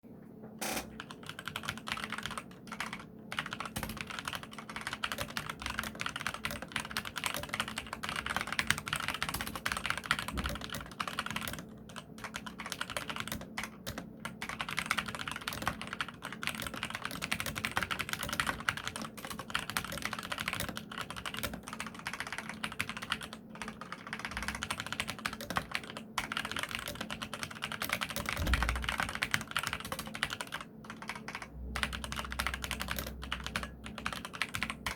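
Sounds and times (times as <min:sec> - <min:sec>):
fast typing on mechanical keyboard: 0:00.6 - 0:34.9.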